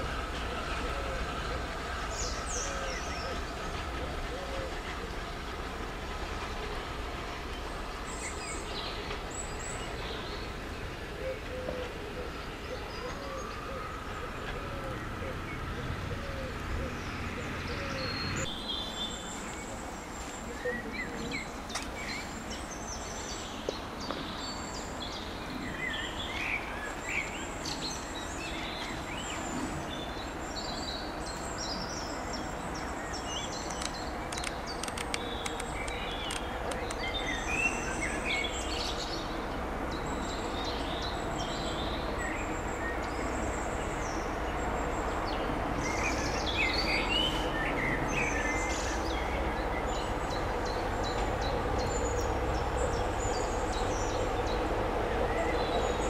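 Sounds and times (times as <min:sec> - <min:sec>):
birds chirping and singing: 0:00.0 - 0:06.7, 0:07.5 - 0:56.0
train rumbling: 0:00.0 - 0:56.0.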